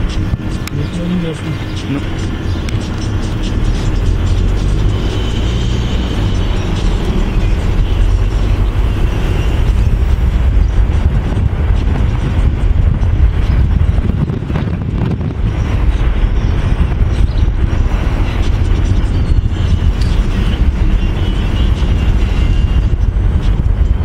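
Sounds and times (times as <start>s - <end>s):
car tyres and engine rumble: 0.0s - 24.0s
wind rushing over microphone: 0.0s - 24.0s.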